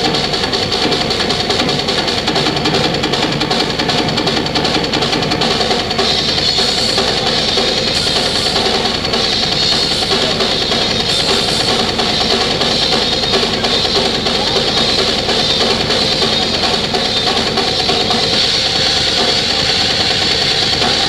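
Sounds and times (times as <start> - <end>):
cymbals washing: 0.0 - 21.0
fast drum strokes: 0.0 - 21.0.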